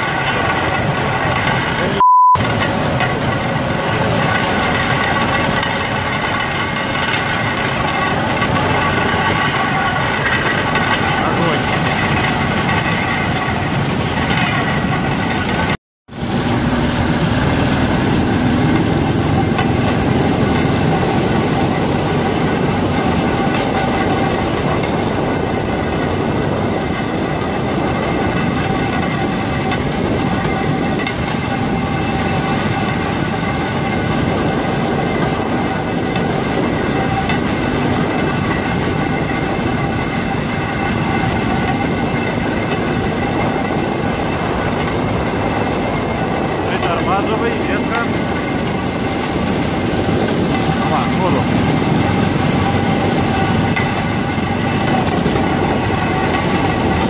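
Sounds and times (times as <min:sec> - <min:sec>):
engine drone: 0:00.0 - 0:57.0
wheels clattering over rails: 0:00.0 - 0:57.0.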